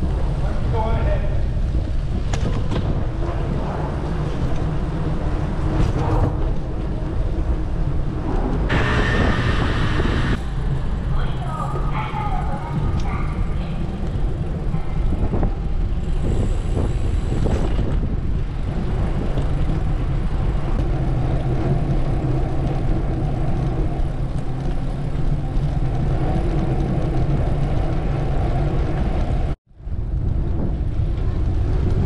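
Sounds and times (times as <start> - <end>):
bicycle tyre and road noise: 0.0 - 32.0
wind rushing on microphone: 0.0 - 32.0.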